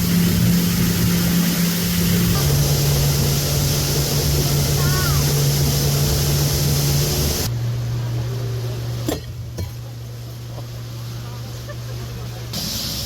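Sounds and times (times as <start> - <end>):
boat motor humming: 0.0 - 13.0
rushing water: 0.0 - 13.0.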